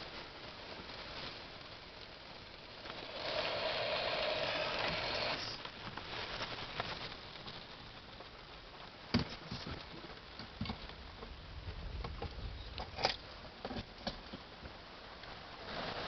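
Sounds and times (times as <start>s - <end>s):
low background hiss: 0.0s - 16.0s
raindrops tapping: 0.0s - 16.0s.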